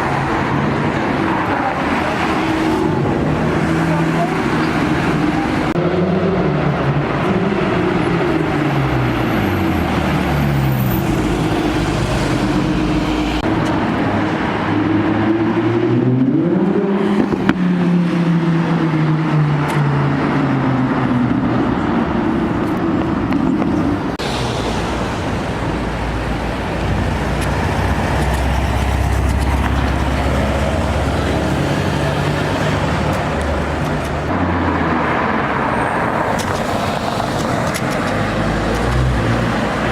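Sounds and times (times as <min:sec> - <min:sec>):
car engines accelerating: 0:00.0 - 0:39.9.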